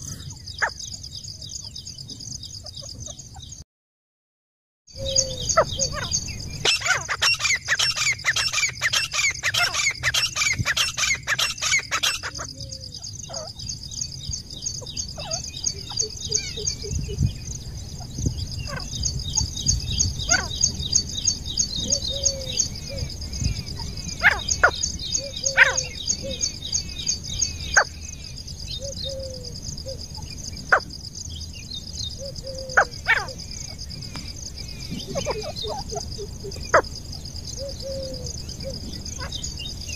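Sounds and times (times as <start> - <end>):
bird calling: 4.9 - 13.8, 14.4 - 17.3, 18.1 - 30.9, 32.0 - 39.9.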